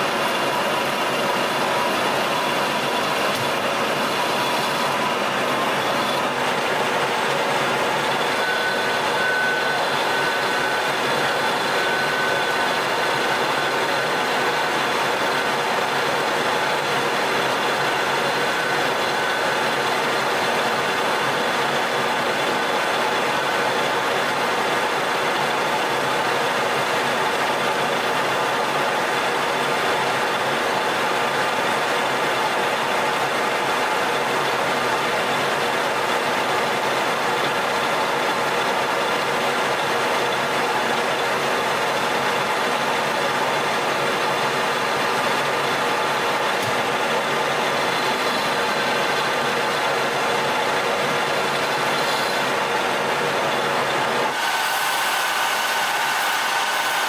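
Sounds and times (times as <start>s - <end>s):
lathe machine whine: 0.0s - 57.0s.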